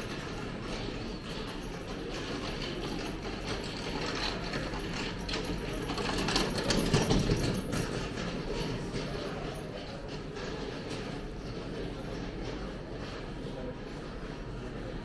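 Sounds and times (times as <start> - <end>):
hand cart wheels rattling: 0.0 - 13.7.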